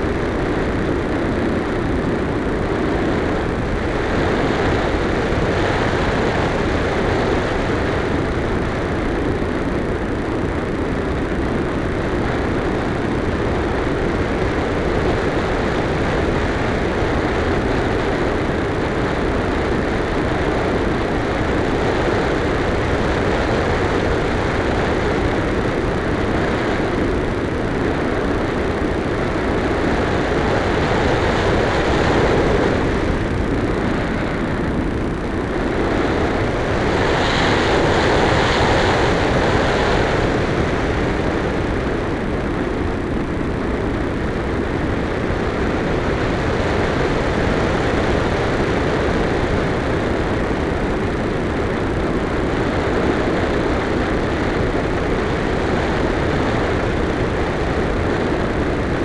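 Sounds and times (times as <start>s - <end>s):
wind rushing over camera: 0.0s - 59.0s.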